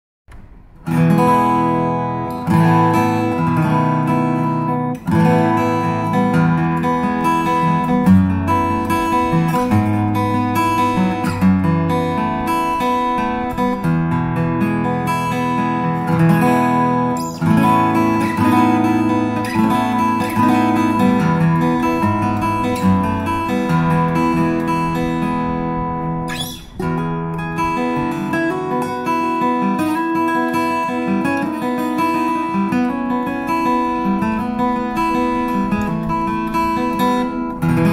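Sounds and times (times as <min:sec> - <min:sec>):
acoustic guitar chords ringing: 0:00.3 - 0:37.9.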